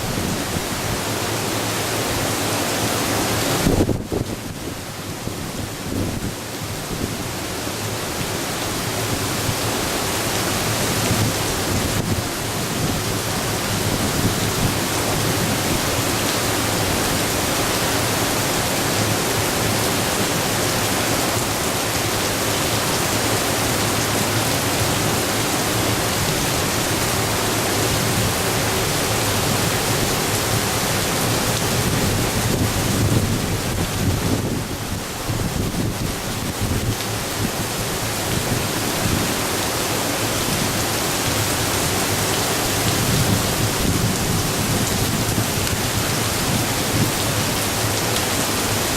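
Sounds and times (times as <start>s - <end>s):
strong wind: 0.0s - 48.9s
torrential rain: 0.0s - 48.9s.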